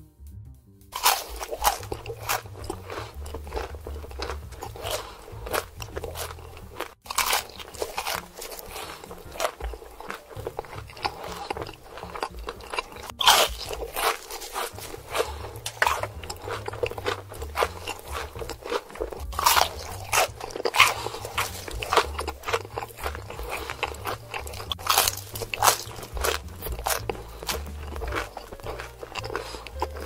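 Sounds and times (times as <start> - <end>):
crunchy chewing of fried chicken: 1.0 - 30.0.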